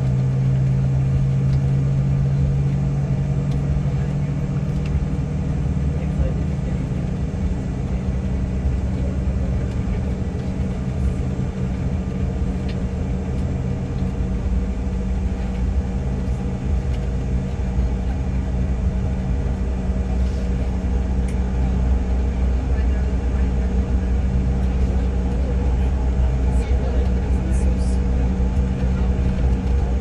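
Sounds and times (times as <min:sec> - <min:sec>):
aircraft cabin engine drone: 0:00.0 - 0:30.0.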